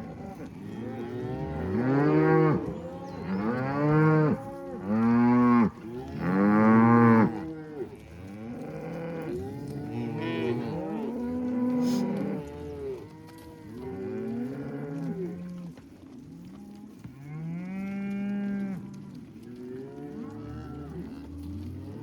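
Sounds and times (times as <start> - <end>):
cattle mooing: 0.0 - 15.6, 19.6 - 22.0.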